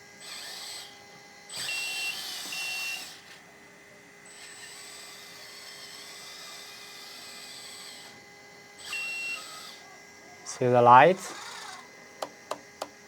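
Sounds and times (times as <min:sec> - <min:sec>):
small electric motors whirring: 0:00.0 - 0:13.0.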